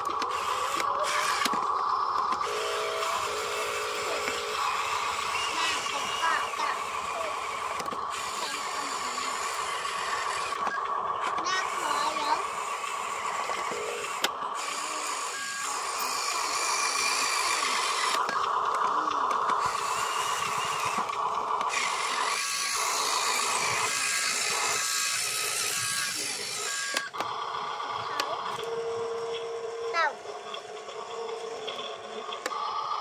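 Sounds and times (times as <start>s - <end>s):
electric motor whine: 0.0s - 33.0s.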